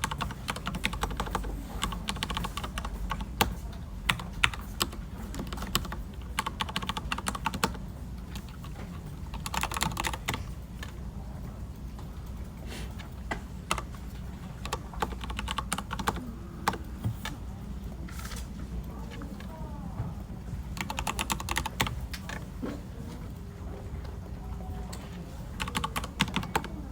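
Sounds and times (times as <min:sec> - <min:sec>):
computer keyboard typing: 0:00.0 - 0:11.0, 0:12.5 - 0:19.6, 0:20.6 - 0:22.6, 0:24.7 - 0:26.9
low office hum: 0:00.0 - 0:26.9.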